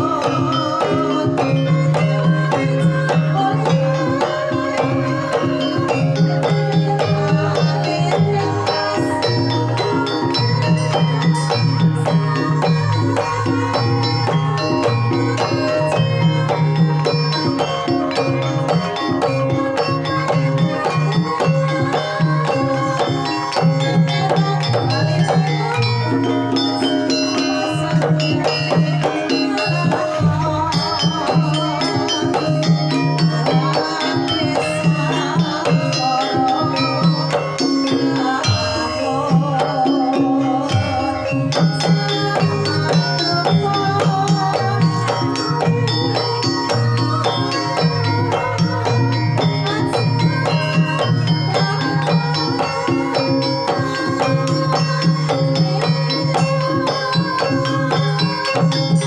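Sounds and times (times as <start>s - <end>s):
metallophones ringing: 0.0s - 59.0s
wavering melodic line: 0.0s - 59.0s.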